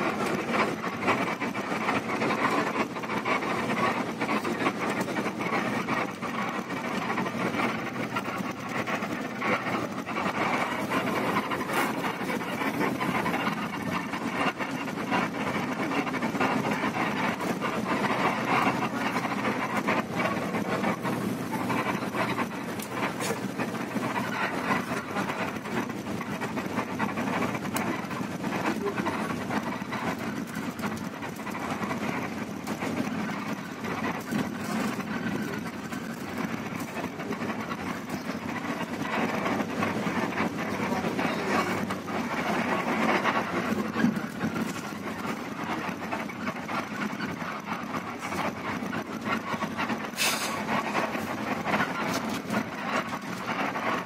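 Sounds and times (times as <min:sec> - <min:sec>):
bus engine and road noise: 0:00.0 - 0:54.0
rattles and knocks of fittings: 0:00.0 - 0:54.0.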